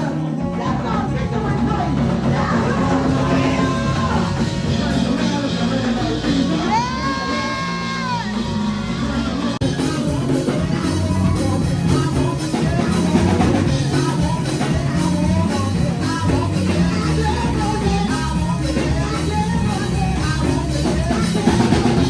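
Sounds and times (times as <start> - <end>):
rock music with singing: 0.0 - 22.0
steady drum beat: 0.0 - 22.0.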